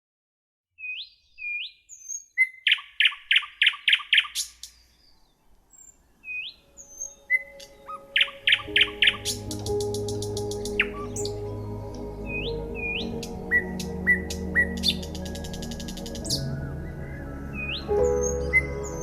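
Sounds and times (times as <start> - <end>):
songbird singing: 0.8 - 19.0.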